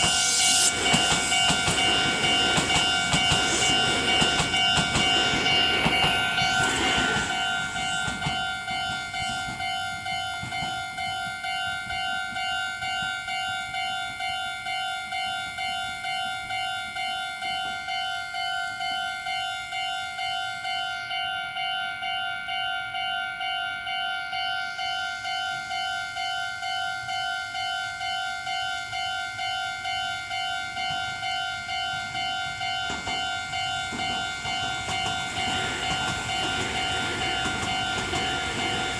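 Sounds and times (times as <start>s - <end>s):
level-crossing warning bell: 0.0s - 38.9s
passing electric train: 0.0s - 38.9s.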